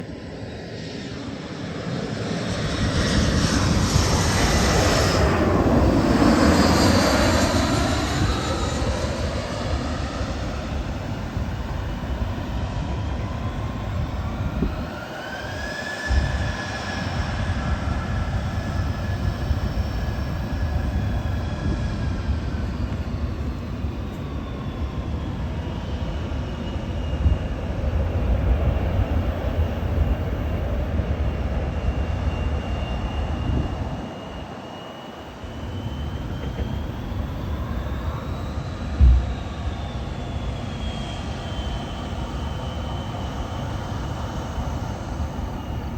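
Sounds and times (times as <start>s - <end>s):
airplane engines rumbling and whining: 0.0s - 45.9s.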